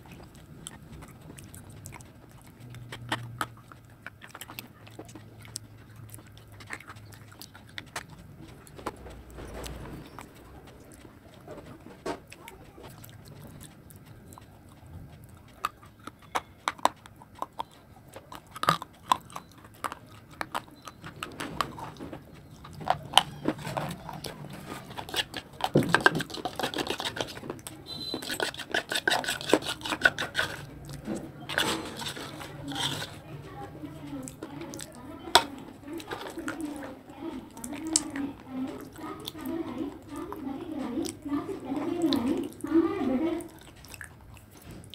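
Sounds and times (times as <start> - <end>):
chewing and wet mouth noises: 0.0 - 44.9.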